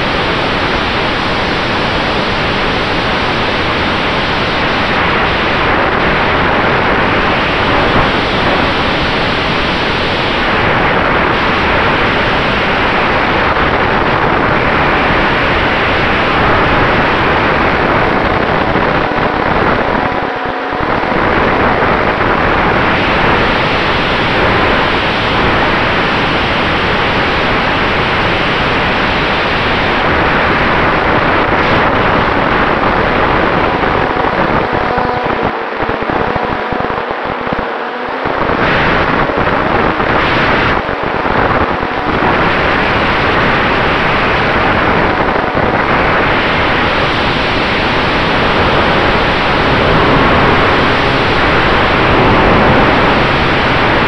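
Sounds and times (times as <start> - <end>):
airflow rushing over microphone: 0.0 - 54.0.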